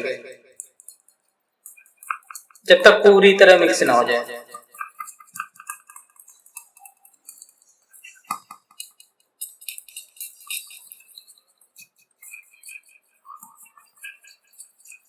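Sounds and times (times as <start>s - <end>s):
spoon scraping a bowl: 0.5s - 15.0s.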